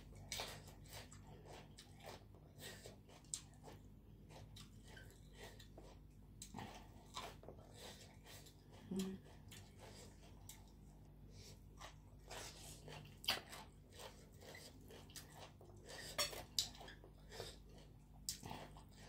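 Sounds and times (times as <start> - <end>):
chewing and mouth smacks: 0.0 - 19.0.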